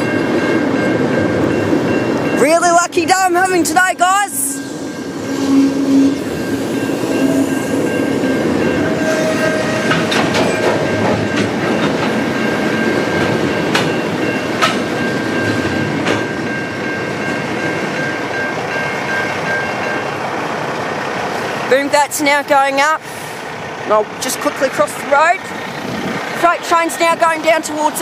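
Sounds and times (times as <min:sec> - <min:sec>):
crossing warning bell ringing: 0:00.0 - 0:28.0
freight wagons rumbling past: 0:00.0 - 0:28.0.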